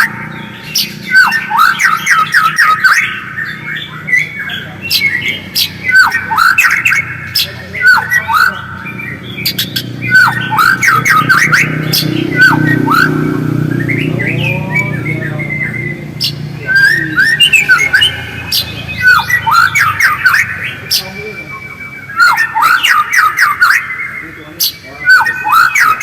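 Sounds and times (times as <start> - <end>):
bird chattering whistled calls: 0.0 - 26.0.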